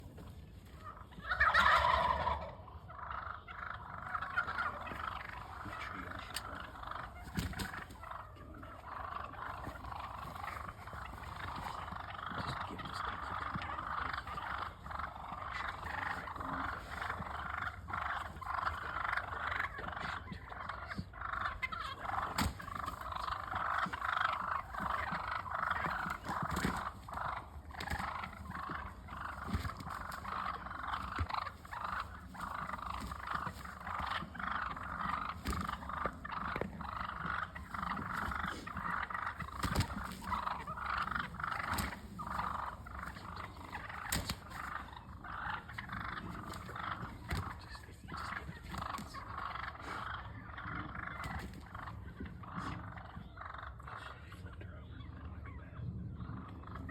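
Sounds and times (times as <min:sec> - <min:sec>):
wild turkeys calling: 0:00.0 - 0:56.9.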